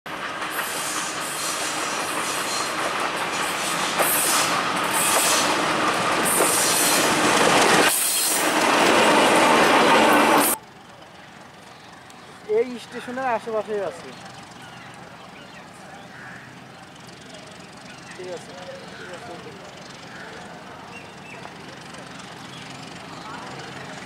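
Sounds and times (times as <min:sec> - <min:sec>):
diesel locomotive engine: 0:00.1 - 0:24.0
train wheels rolling on rails: 0:00.1 - 0:24.0.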